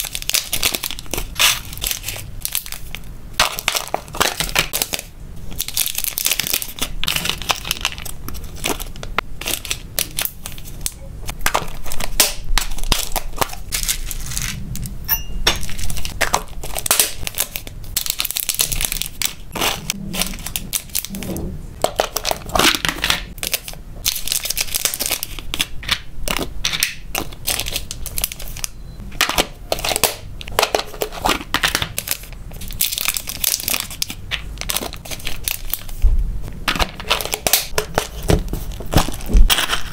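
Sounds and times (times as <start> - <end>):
plastic bags crinkling: 0.0 - 14.6, 15.6 - 21.1, 21.8 - 25.7, 27.1 - 28.7, 29.3 - 36.0.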